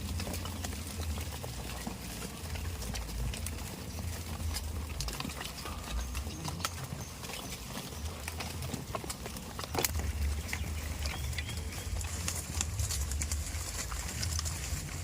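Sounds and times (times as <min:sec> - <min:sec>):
steady low rumble: 0:00.0 - 0:09.1, 0:09.9 - 0:15.0
goats moving and feeding: 0:00.0 - 0:15.0
small clicks and rustles: 0:00.0 - 0:15.0.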